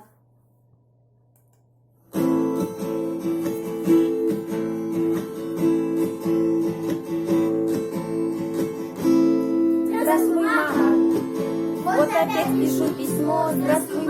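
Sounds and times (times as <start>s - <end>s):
acoustic guitar strumming: 2.1s - 14.0s.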